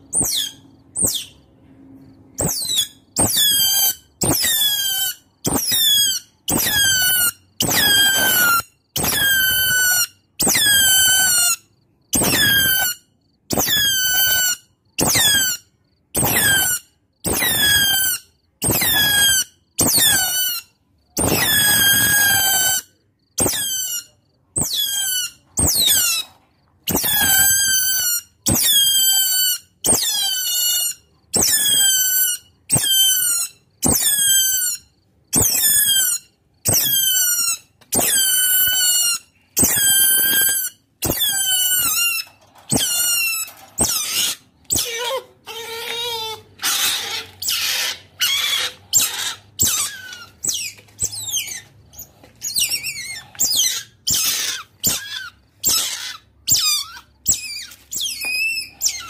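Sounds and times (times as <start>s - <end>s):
otter squeaking squeals: 0.0s - 1.5s, 2.4s - 59.0s.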